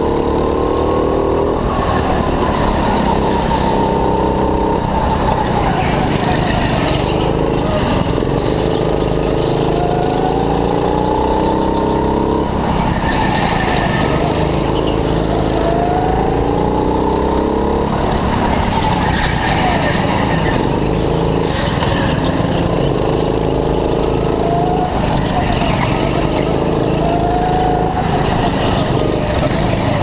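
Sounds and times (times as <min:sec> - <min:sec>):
go-kart engine revving: 0:00.0 - 0:30.0.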